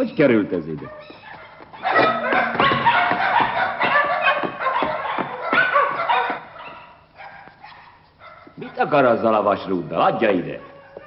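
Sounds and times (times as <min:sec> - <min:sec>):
dogs barking and yelping: 0:00.6 - 0:11.0.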